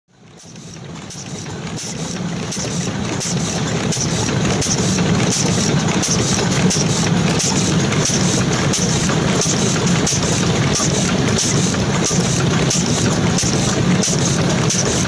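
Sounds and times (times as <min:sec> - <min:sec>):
stationary engine running: 0:00.1 - 0:15.0.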